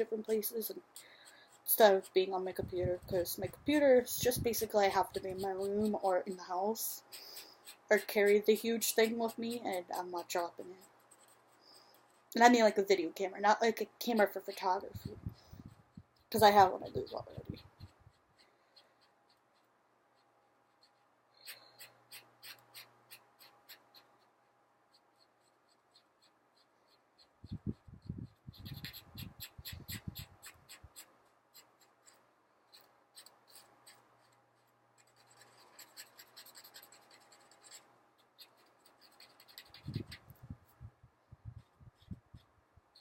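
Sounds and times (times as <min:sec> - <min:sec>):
marker scribbling on paper: 0:00.0 - 0:24.3, 0:24.9 - 0:40.6.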